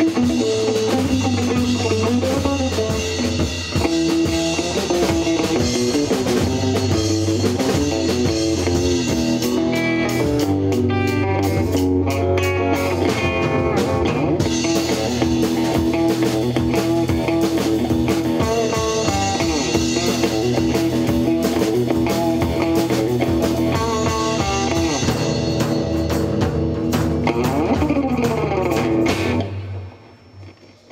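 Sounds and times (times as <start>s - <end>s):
instrumental rock music: 0.0s - 30.9s.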